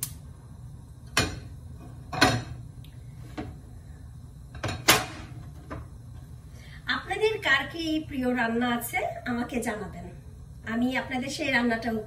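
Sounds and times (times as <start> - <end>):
gas burner rumbling: 0.0 - 12.0.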